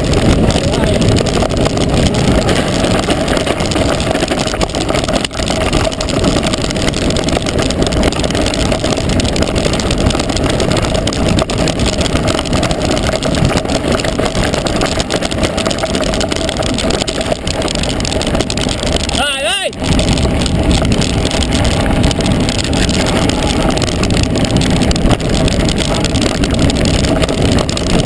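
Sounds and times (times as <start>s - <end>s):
bike rattling over stones: 0.0s - 28.0s
tyres rumbling on gravel: 0.0s - 28.0s
wind buffeting microphone: 0.0s - 28.0s.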